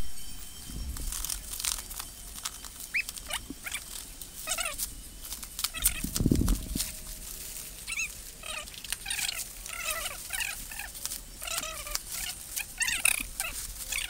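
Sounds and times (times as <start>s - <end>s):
plastic wrap crackling: 0.0s - 14.0s
plastic wrap squeaking: 0.0s - 14.0s.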